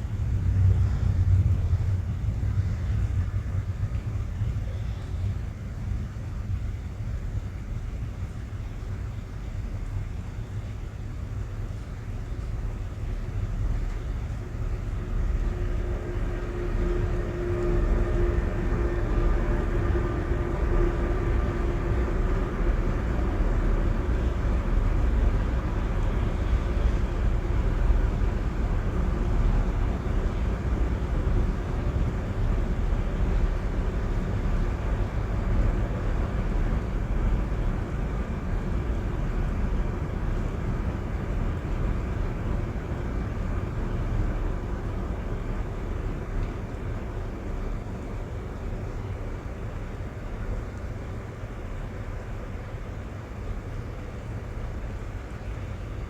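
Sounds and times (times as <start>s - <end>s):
deep constant rumble: 0.0s - 56.0s
faint humming tones: 0.0s - 56.0s
rain on car roof and glass: 0.2s - 55.9s.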